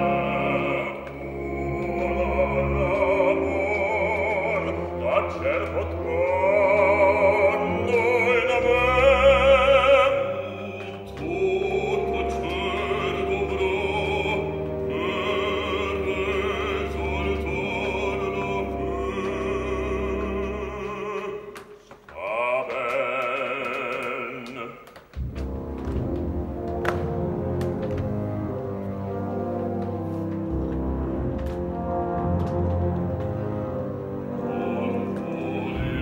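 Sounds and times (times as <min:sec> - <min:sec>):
operatic bass singing: 0:00.0 - 0:36.0.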